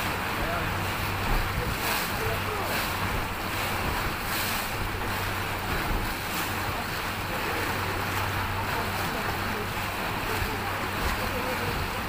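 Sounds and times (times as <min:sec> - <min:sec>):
boat engine humming: 0:00.0 - 0:12.0
water rushing along hull: 0:00.0 - 0:12.0
wind buffeting microphone: 0:00.0 - 0:12.0.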